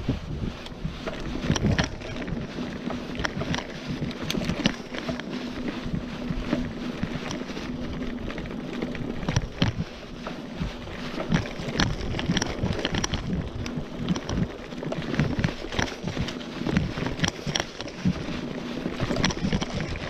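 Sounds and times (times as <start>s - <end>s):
bike rattling over bumps: 0.0s - 20.0s
bike tyres rolling on dirt: 0.0s - 20.0s
wind buffeting microphone: 0.0s - 20.0s.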